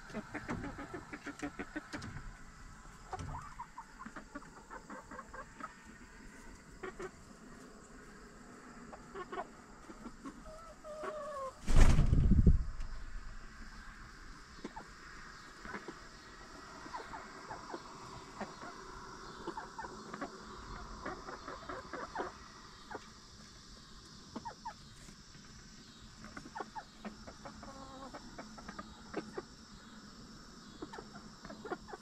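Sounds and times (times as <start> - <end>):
hens clucking softly: 0.0 - 11.6, 13.5 - 32.0.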